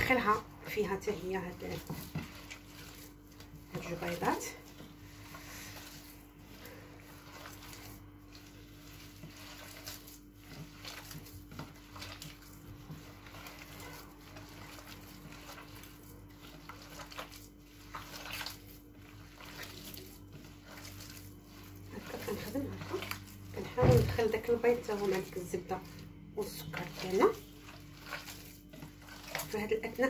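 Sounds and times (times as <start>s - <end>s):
wet squelches of kneading: 0.0s - 30.0s.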